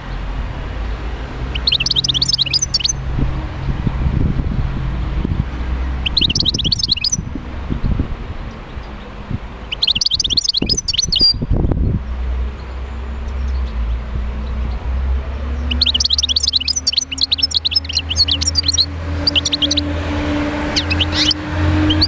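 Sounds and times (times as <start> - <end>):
finch twittering song: 1.4 - 3.0, 5.8 - 22.0.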